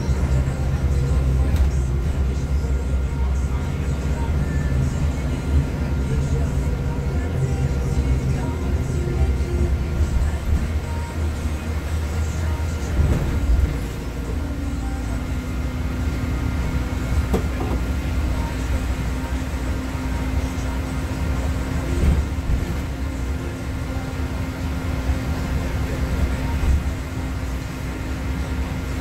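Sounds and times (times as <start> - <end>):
bus engine rumble: 0.0 - 29.0
constant hum: 0.0 - 29.0
road noise: 0.0 - 29.0.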